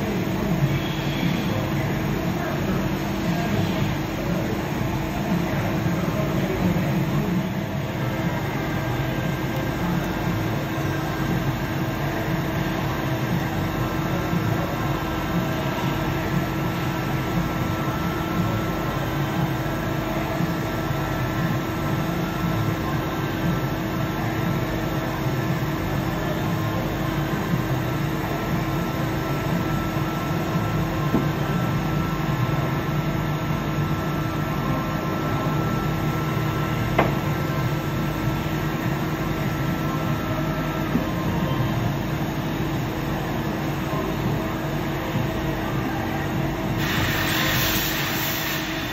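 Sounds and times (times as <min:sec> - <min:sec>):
high steady whine: 0:00.0 - 0:48.9.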